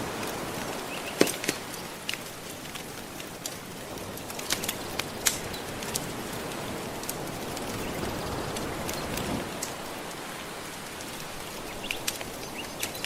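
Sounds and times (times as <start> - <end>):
soft ocean waves: 0.0 - 13.0
wood fire crackling and popping: 0.0 - 13.0.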